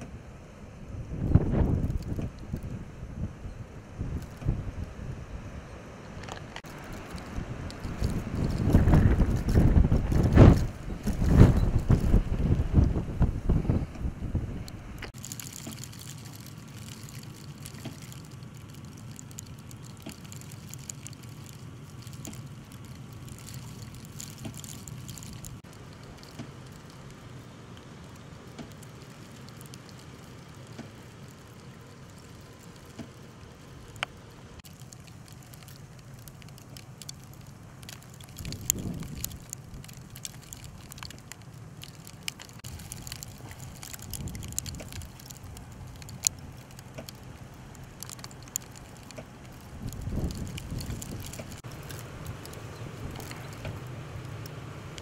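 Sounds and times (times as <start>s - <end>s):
snowstorm wind rumble: 0.0s - 55.0s.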